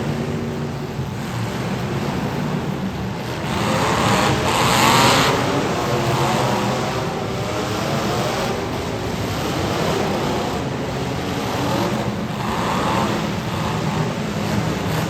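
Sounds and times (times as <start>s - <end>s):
car engine revving: 0.0s - 15.0s
car engines running: 0.0s - 15.0s.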